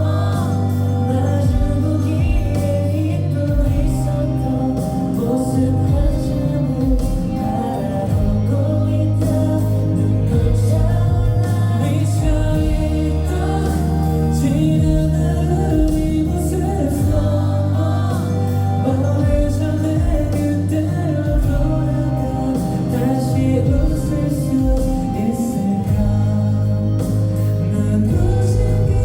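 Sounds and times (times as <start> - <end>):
pop backing track: 0.0 - 29.0
vocal group singing: 0.0 - 29.0.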